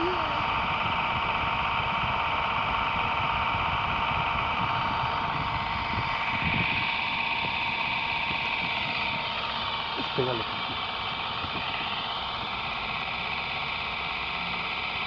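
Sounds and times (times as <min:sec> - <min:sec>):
model helicopter motor whining: 0:00.0 - 0:15.0.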